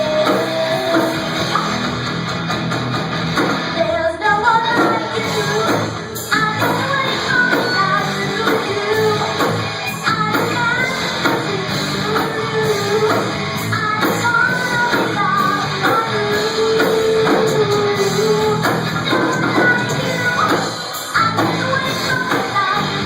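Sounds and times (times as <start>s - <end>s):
person singing: 0.0s - 1.8s, 3.7s - 23.0s
rock band playing: 0.0s - 23.0s.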